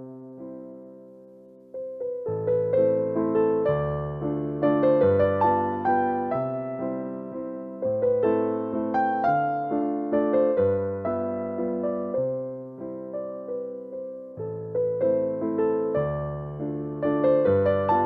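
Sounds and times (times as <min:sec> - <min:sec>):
slow gentle piano music: 0:00.0 - 0:18.0.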